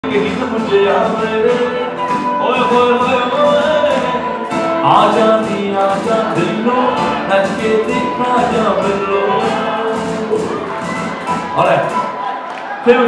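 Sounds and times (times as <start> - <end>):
man singing into microphone: 0.0 - 12.0
percussion beat: 0.0 - 12.2
live band music: 0.0 - 12.6.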